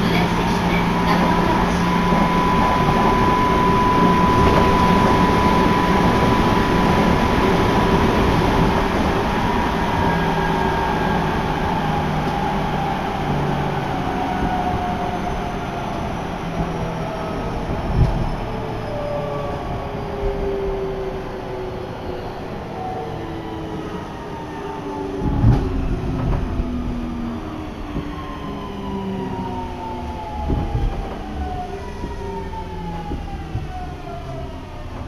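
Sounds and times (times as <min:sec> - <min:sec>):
electric train rumbling: 0:00.0 - 0:35.0.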